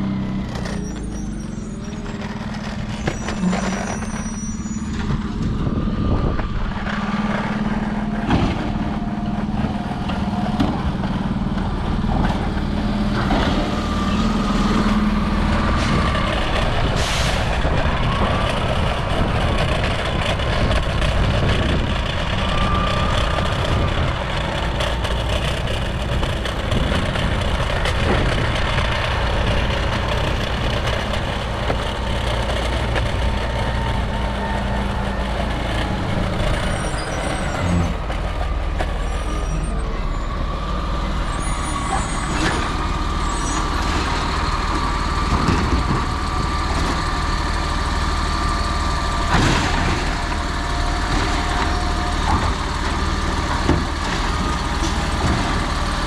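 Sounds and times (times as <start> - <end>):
continuous engine whine: 0.0 - 56.0
diesel truck engine running: 0.0 - 56.0.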